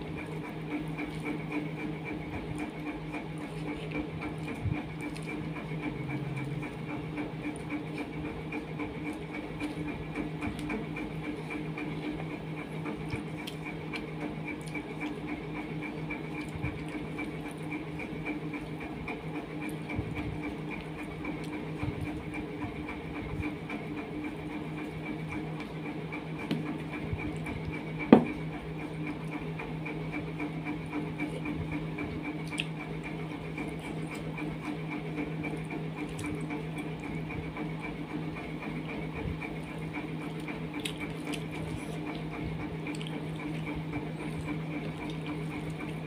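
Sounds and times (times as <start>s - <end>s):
hand mixing food on steel plate: 0.0s - 46.0s
steady hum: 0.0s - 46.0s.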